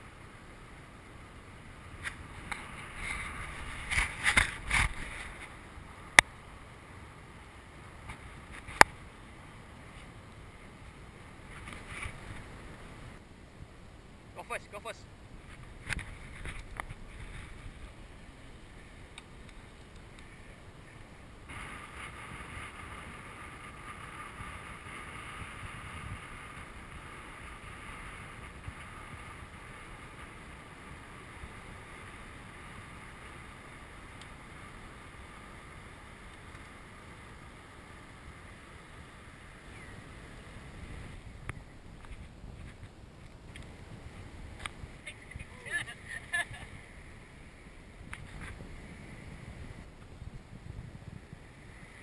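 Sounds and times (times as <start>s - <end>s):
wind rushing over microphone: 0.0s - 14.0s, 14.8s - 52.0s
steady hiss: 0.0s - 52.0s.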